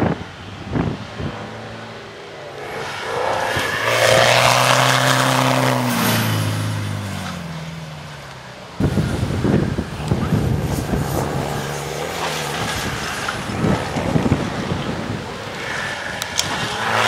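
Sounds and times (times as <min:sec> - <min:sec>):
rough engine noise: 0:00.0 - 0:17.0.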